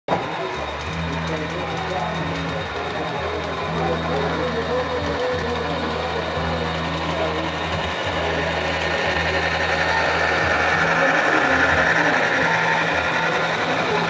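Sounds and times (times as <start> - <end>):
model train motor hum: 0.1 - 14.0
small metal wheels clicking on rails: 0.1 - 14.0.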